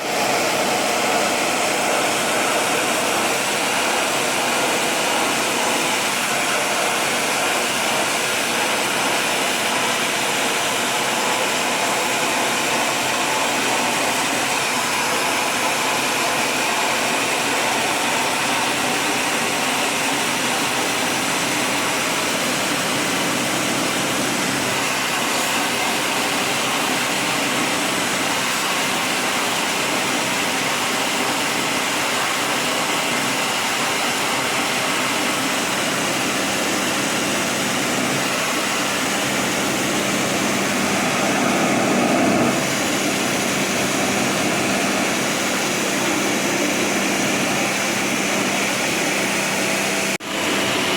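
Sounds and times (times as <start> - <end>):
pressure washer pump hum: 0.0 - 50.9
water jet spraying: 0.0 - 50.9.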